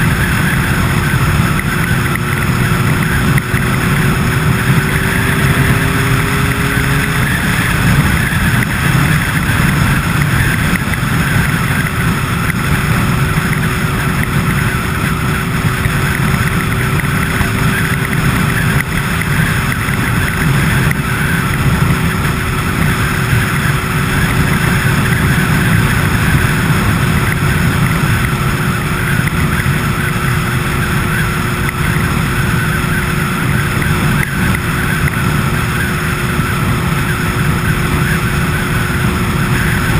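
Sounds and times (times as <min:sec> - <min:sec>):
vehicle running noise: 0:00.0 - 0:39.9.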